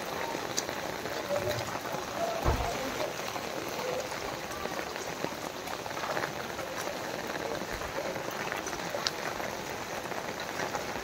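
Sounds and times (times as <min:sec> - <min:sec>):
rain pattering on floodwater: 0:00.0 - 0:11.0.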